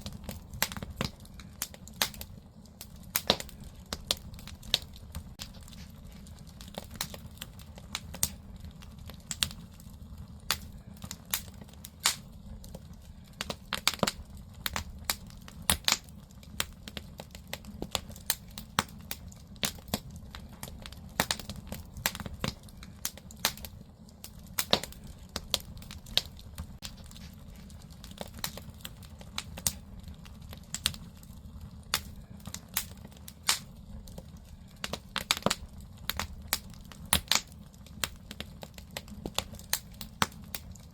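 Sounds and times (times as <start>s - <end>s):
firewood burning and crackling: 0.0s - 40.9s.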